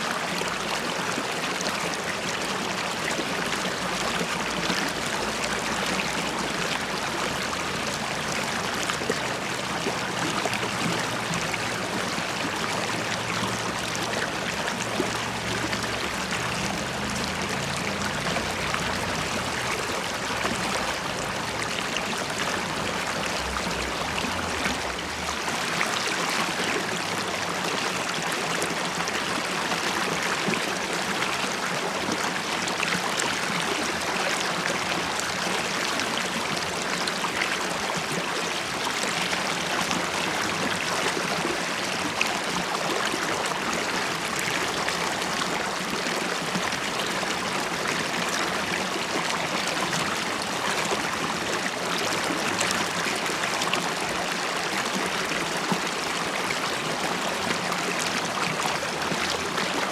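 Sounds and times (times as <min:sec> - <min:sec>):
stream flowing and burbling: 0:00.0 - 0:59.9.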